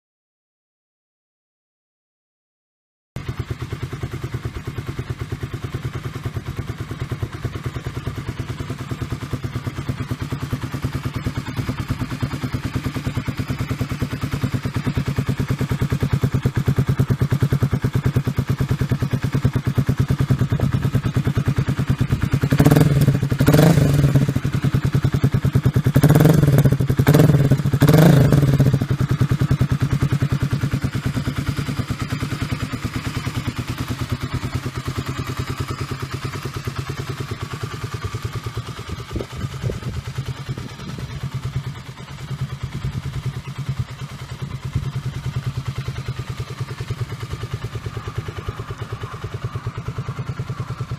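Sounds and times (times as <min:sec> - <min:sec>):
motorcycle engine idling: 0:03.2 - 0:50.9
motorcycle engine revving: 0:03.2 - 0:50.9.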